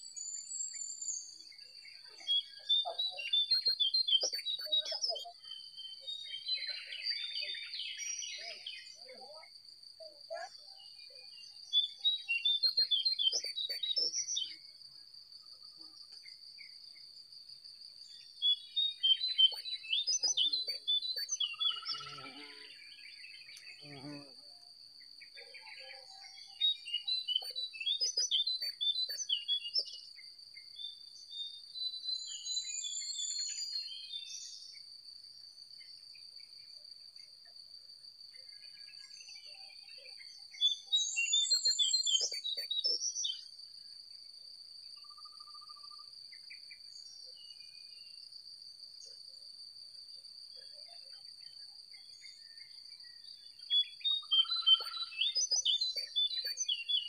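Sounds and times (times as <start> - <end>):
songbirds chirping: 0.0 - 43.6, 50.7 - 57.0.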